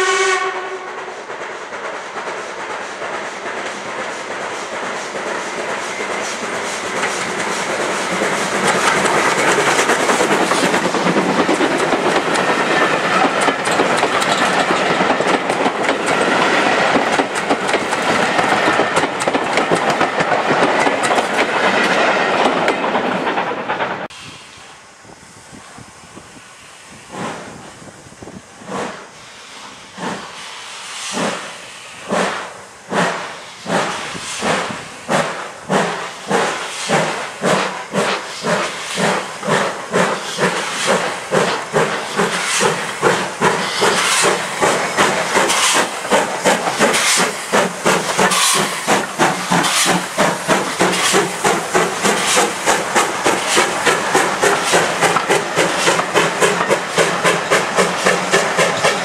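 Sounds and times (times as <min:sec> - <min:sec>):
steam hissing: 0:00.0 - 0:59.0
steam locomotive exhaust beats: 0:00.0 - 0:59.0.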